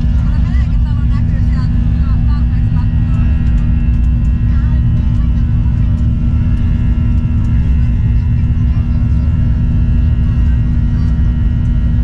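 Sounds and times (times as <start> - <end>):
airliner cabin rumble and hum: 0.0 - 12.0.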